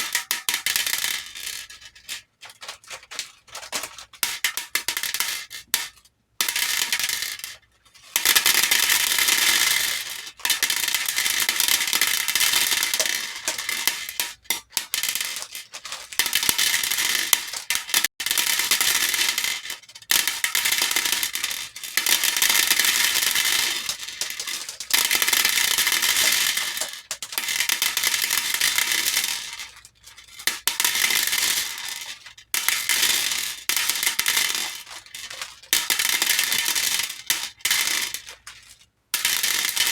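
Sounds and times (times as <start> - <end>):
beads clattering into a bowl: 6.4 - 39.9.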